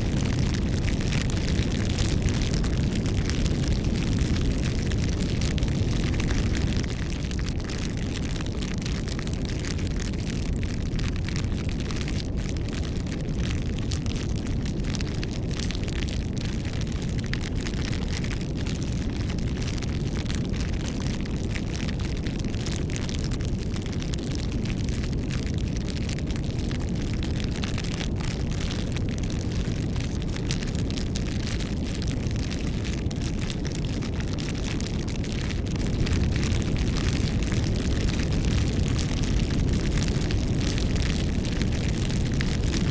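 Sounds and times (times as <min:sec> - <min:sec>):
low rumble of flames: 0:00.0 - 0:42.9
wood crackles and pops: 0:00.0 - 0:42.9.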